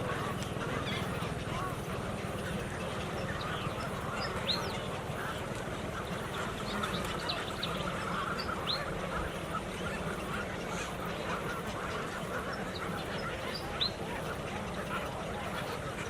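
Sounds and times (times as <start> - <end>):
flock of birds chattering: 0.0 - 16.0
steady low hum: 0.0 - 16.0.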